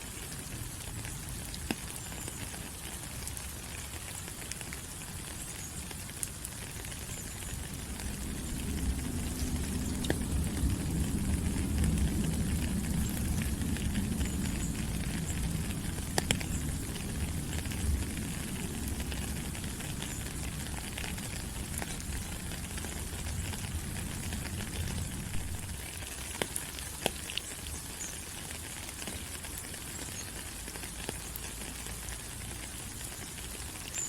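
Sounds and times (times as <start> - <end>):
rain on leaves: 0.0 - 34.0.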